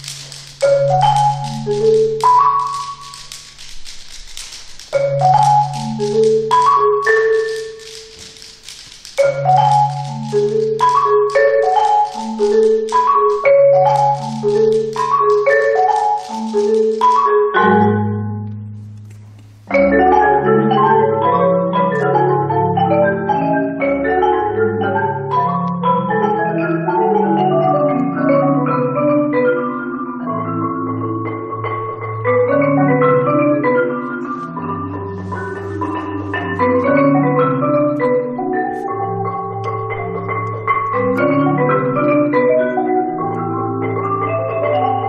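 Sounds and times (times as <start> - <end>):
marimba and mallet percussion: 0.0 - 18.4, 19.7 - 45.0.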